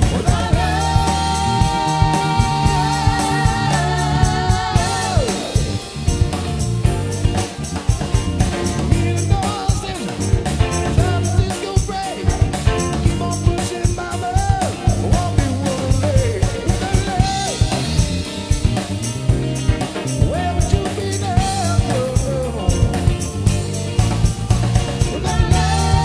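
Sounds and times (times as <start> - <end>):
drum kit beat: 0.0 - 26.0
electric keyboards: 0.0 - 26.0
sliding lead melody: 0.0 - 26.0.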